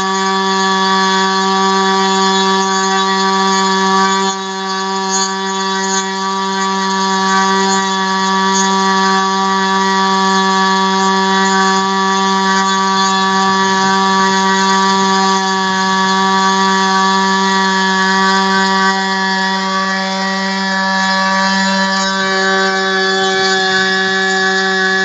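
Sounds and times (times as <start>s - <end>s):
model engine high-pitched buzz: 0.0s - 25.0s.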